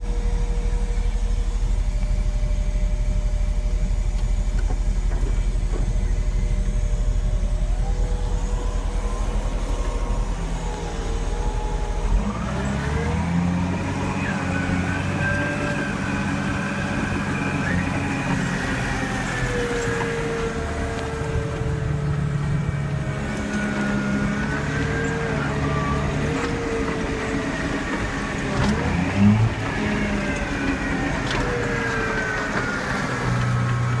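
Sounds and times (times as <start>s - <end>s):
diesel engine running: 0.0s - 34.0s
high engine whine: 0.0s - 34.0s.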